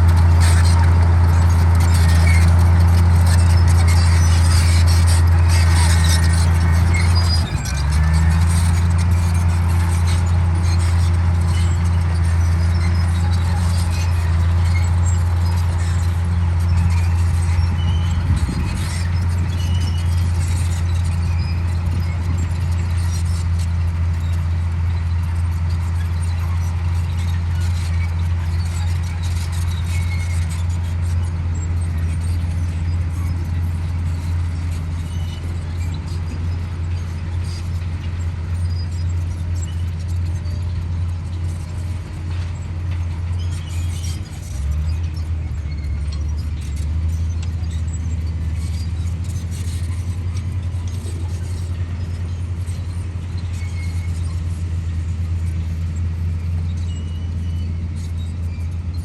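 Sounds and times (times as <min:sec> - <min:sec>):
bulldozer diesel engine running: 0:00.0 - 0:59.0
tracks squeaking and clanking: 0:00.0 - 0:59.0.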